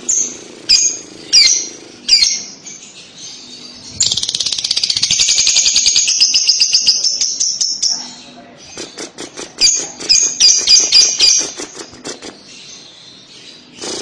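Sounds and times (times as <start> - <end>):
lovebird chirps: 0.0 - 9.0, 9.6 - 14.0
lovebird chattering trill: 0.0 - 14.0.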